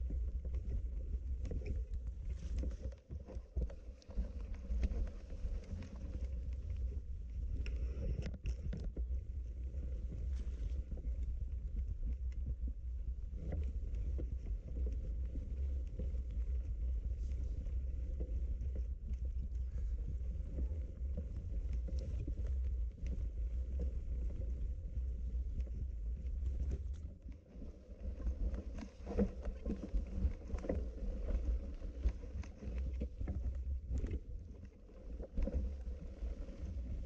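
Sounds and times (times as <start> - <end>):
rustling: 0.0 - 12.4, 13.4 - 37.0.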